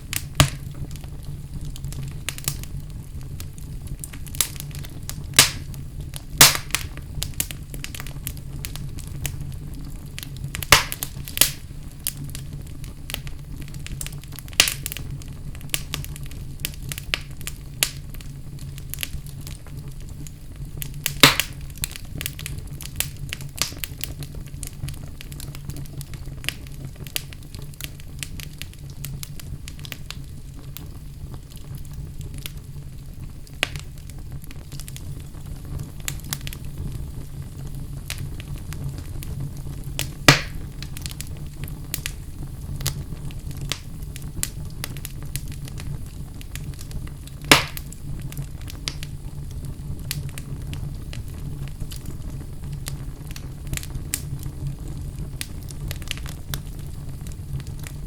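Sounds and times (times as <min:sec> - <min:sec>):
logs crackling and popping: 0:00.0 - 0:58.0
wood fire rumbling: 0:00.0 - 0:58.0.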